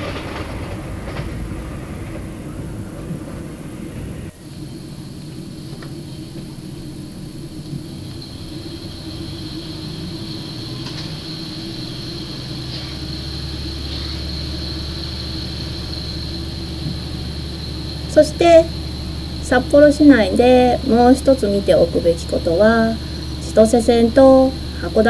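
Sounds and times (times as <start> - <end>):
railcar engine drone: 0.0 - 25.0
thin high whine: 0.0 - 25.0.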